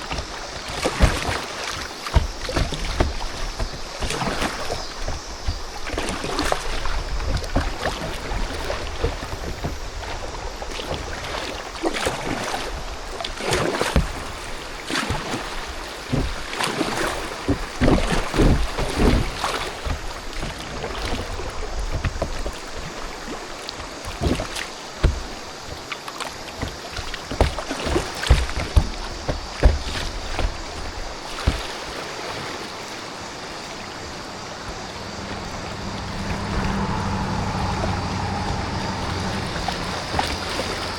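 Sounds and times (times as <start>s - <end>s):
paddle strokes splashing: 0.0s - 40.9s
water rushing and splashing: 0.0s - 40.9s.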